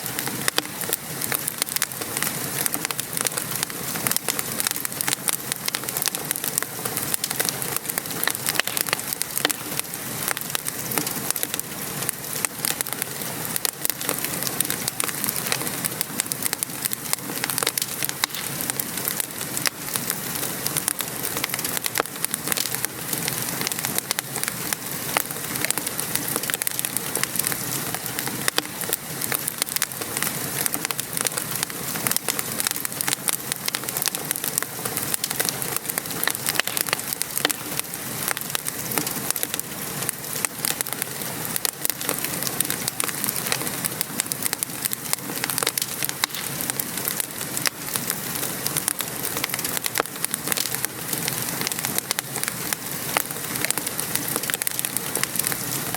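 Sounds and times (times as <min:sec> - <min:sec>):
rain pattering: 0:00.0 - 0:55.9
wood fire crackling: 0:00.0 - 0:55.9.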